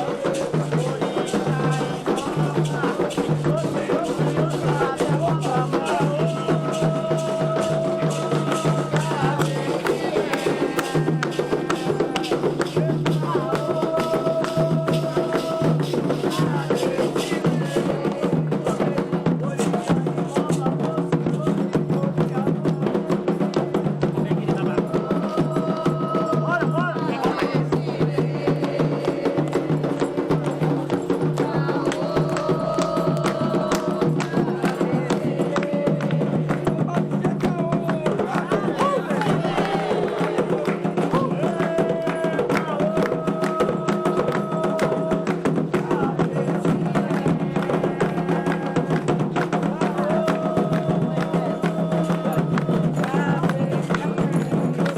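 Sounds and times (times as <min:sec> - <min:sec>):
drums and hand percussion: 0:00.0 - 0:54.9
group singing: 0:00.0 - 0:54.9.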